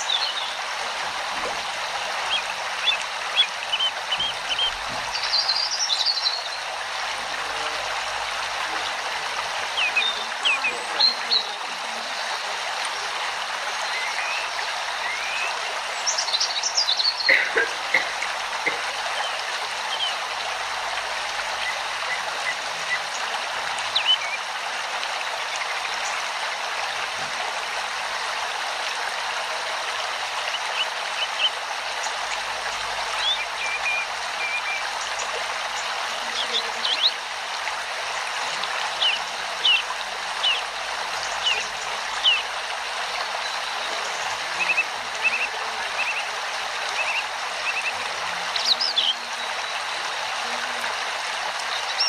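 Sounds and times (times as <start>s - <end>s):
steady rushing water: 0.0s - 52.0s.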